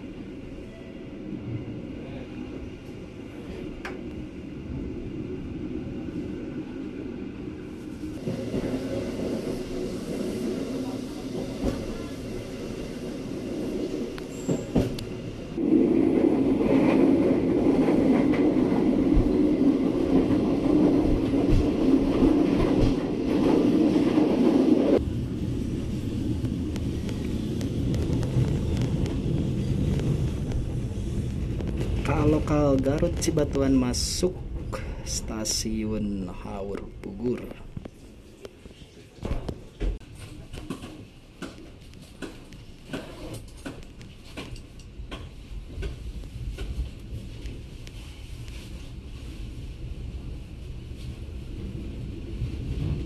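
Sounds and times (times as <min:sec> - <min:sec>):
train rumble inside carriage: 0:00.0 - 0:53.0.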